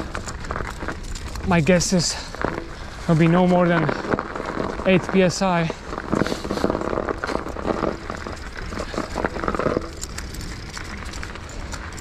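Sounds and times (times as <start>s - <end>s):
bike tyres crunching on snow: 0.0s - 12.0s.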